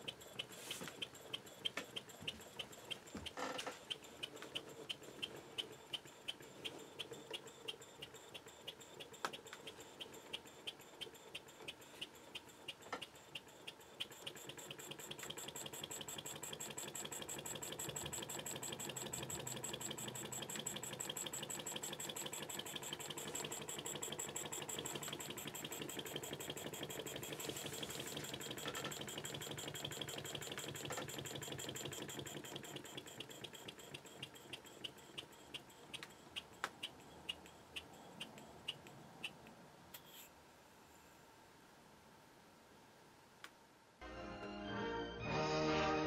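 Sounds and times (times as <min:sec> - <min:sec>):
model steam engine ticking: 0:00.0 - 0:39.4.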